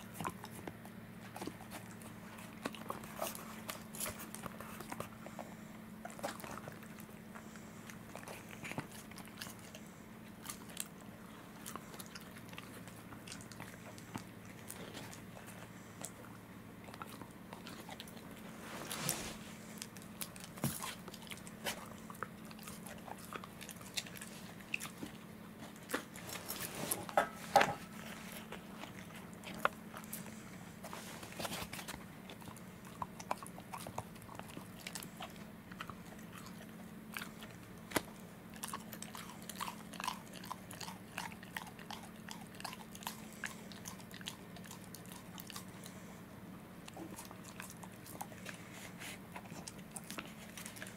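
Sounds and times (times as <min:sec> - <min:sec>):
dog chewing rawhide: 0:00.0 - 0:46.2, 0:46.8 - 0:50.9.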